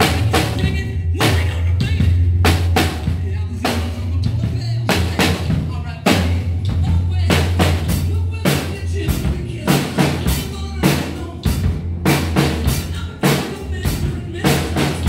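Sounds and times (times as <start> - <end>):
backing music track: 0.0 - 15.0
drum kit rock beat: 0.0 - 15.0.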